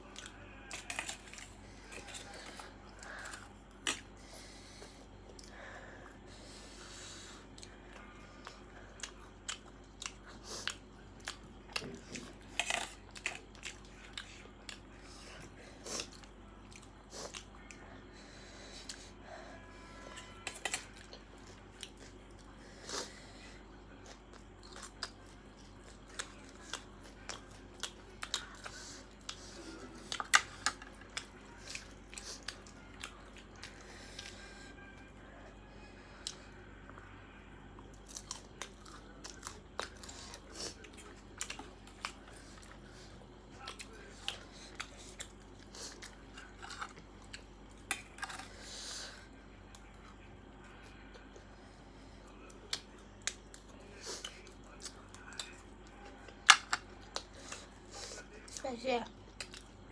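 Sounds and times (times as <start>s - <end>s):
person chewing crunchy food: 0.0s - 19.2s, 20.0s - 37.1s, 37.7s - 58.6s, 59.2s - 59.9s.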